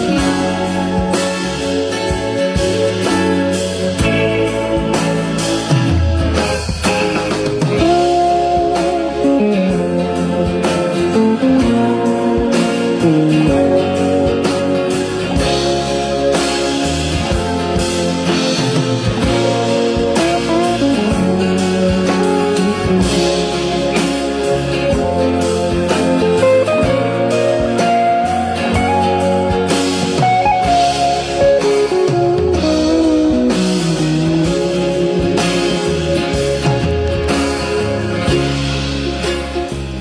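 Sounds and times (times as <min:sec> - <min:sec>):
bass line: 0:00.0 - 0:40.0
blues guitar music: 0:00.0 - 0:40.0.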